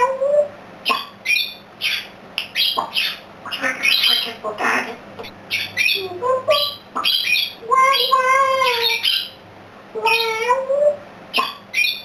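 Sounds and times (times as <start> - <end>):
parrot squawking: 0.0 - 9.4, 10.0 - 12.0.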